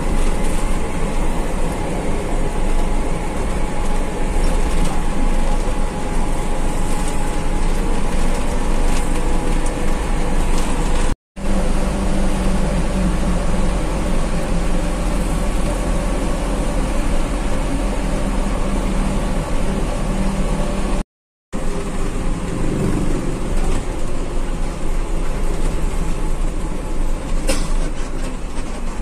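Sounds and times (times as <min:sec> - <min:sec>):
bus engine hum and road noise: 0:00.0 - 0:29.0.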